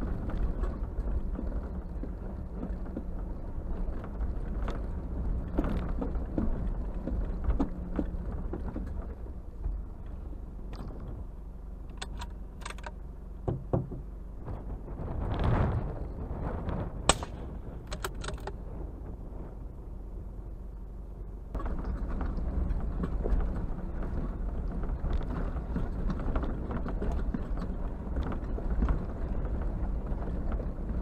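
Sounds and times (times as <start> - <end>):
knocks and rattles over bumps: 0.0 - 19.7, 21.5 - 31.0
low engine hum: 0.0 - 31.0.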